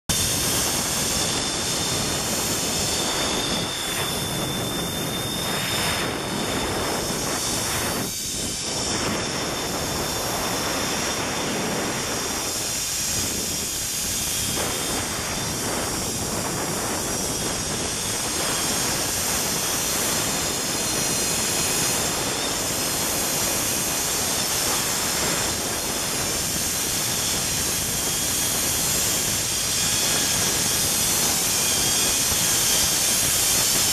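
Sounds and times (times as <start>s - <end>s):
wind over microphone: 0.0s - 33.9s
pulleys running along cable: 0.1s - 33.9s.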